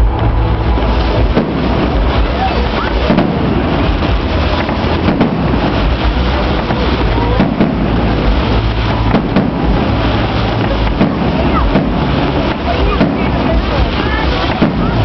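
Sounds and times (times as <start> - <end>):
crowd chattering: 0.0 - 15.0
fireworks cracks: 0.0 - 15.0
fireworks rumble: 0.0 - 15.0.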